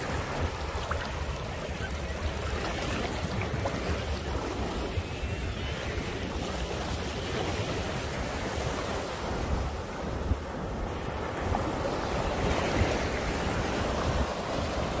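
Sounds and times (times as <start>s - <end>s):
small waves lapping on sand: 0.0s - 15.0s.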